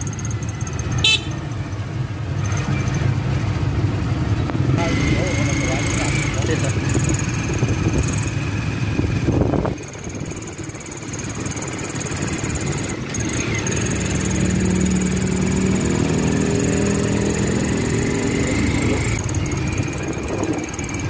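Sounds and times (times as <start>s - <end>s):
passing cars and motorbikes: 0.0s - 21.0s
vehicle engine hum from inside: 0.0s - 21.0s.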